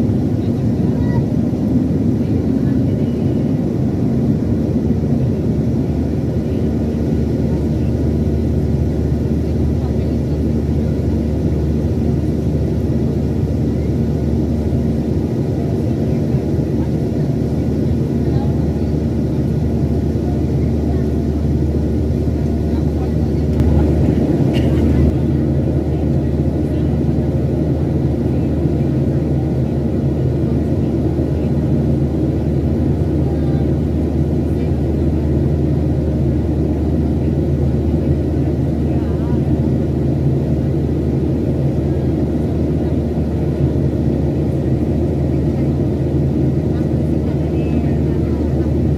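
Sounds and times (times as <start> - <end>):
jet engine cabin drone: 0.0 - 48.9.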